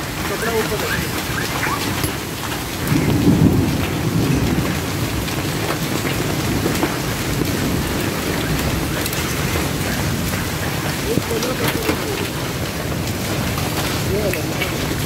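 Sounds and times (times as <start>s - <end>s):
hail ticking on hard surfaces: 0.0s - 15.0s
heavy rain pouring: 0.0s - 15.0s.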